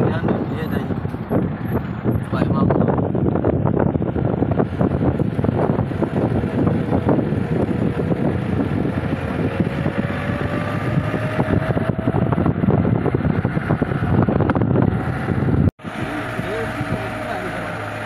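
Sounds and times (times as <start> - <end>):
vehicle engine and tyre rumble: 0.0 - 18.0
wind buffeting microphone: 0.0 - 18.0.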